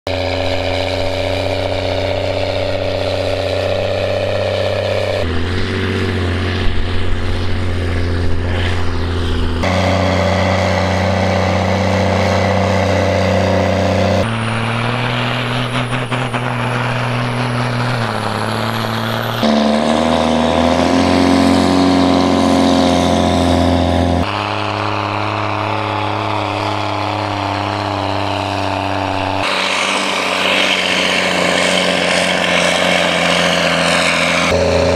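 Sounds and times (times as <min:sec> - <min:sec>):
tractor diesel engines under load: 0:00.1 - 0:34.9.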